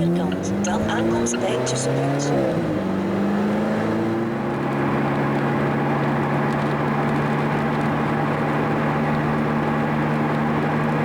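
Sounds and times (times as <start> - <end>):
car engine droning: 0.0 - 11.0
tyre and road noise: 0.0 - 11.0.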